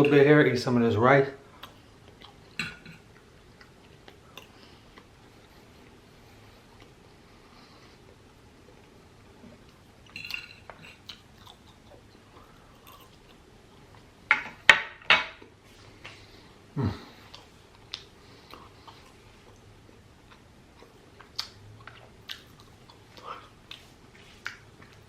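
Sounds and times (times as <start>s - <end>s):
close chewing and eating: 1.4s - 14.3s, 15.4s - 25.0s.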